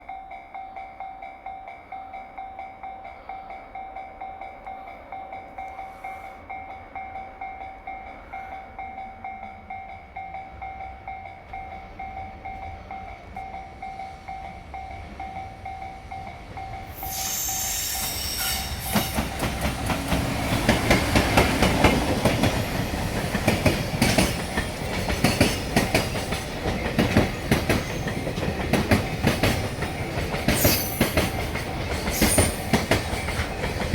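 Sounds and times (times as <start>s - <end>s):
freight train passing: 0.0s - 33.9s.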